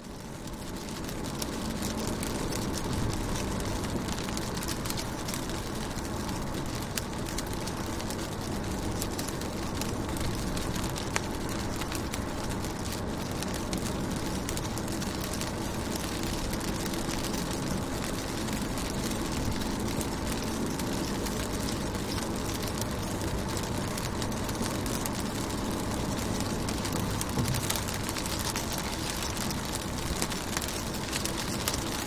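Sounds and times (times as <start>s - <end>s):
rain on car windows: 0.0s - 32.0s.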